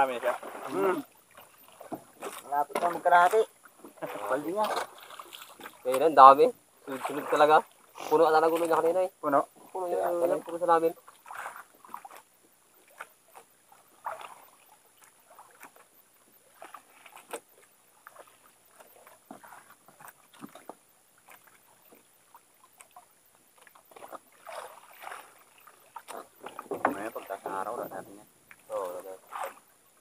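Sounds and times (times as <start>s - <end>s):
soft water sounds: 0.0s - 30.0s.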